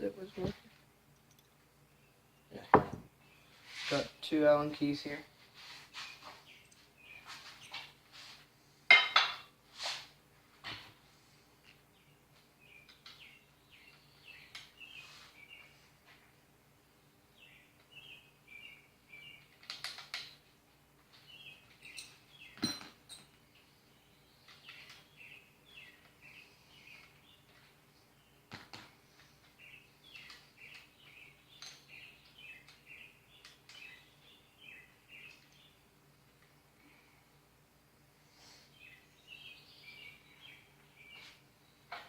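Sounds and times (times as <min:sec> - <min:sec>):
small birds chirping: 0:00.0 - 0:08.0, 0:11.0 - 0:37.6, 0:38.3 - 0:42.0.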